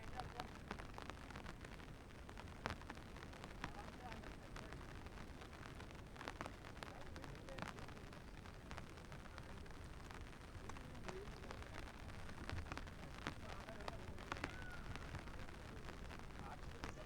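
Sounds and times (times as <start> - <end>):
rain hissing: 0.0 - 17.0
raindrops ticking: 0.0 - 17.0.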